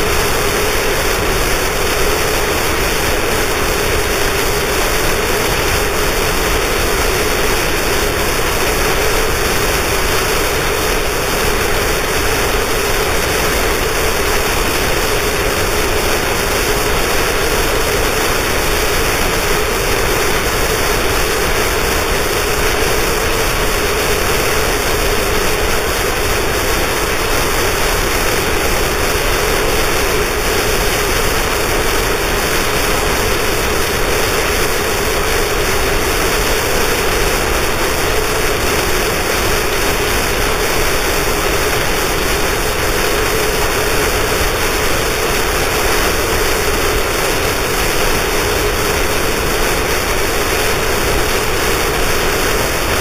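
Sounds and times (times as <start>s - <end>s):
harsh static noise music: 0.0s - 53.0s.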